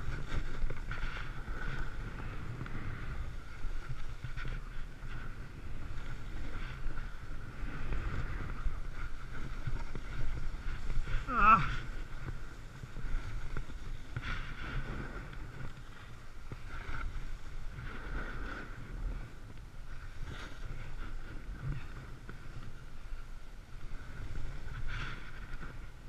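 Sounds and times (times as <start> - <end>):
snowboard carving over snow: 0.0 - 26.0
wind rumble on microphone: 0.0 - 26.0.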